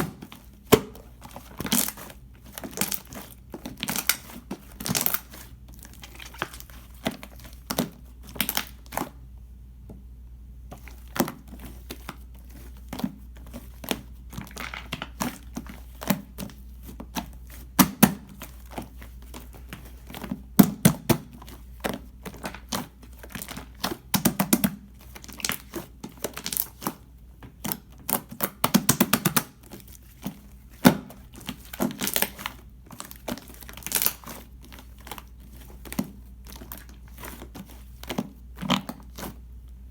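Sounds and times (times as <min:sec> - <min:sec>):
slime squishing by hand: 0:00.0 - 0:09.4, 0:10.6 - 0:39.9.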